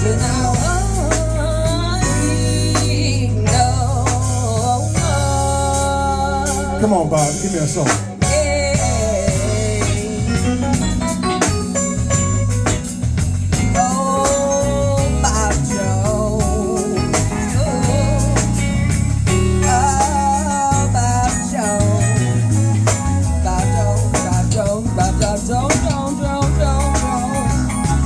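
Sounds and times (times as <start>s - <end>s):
bass: 0.0s - 28.0s
drum kit: 0.0s - 28.0s
lead melody with bending notes: 0.0s - 28.0s.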